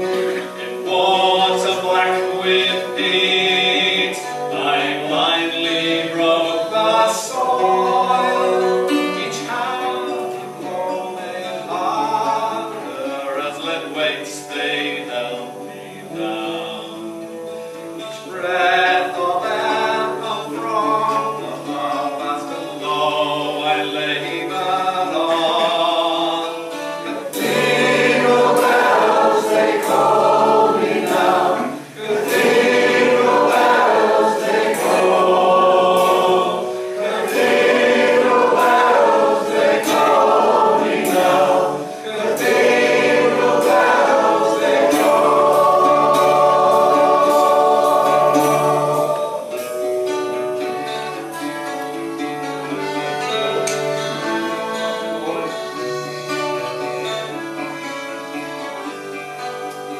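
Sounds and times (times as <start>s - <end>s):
group singing a folk chorus: 0.0s - 51.4s
strummed guitar: 0.0s - 59.9s.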